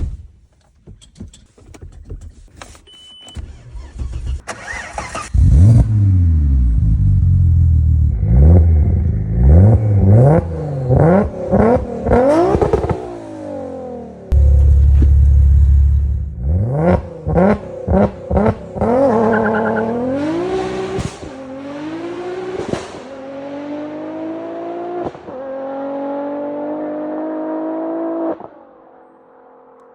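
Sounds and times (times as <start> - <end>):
car engine revving and accelerating: 4.1 - 29.0.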